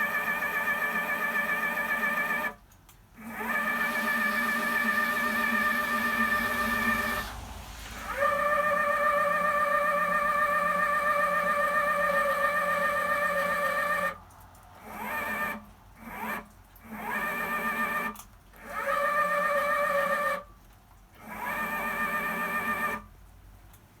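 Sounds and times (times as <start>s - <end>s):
telescope drive motor whining: 0.0s - 2.6s, 3.2s - 14.2s, 14.8s - 20.4s, 21.2s - 23.1s.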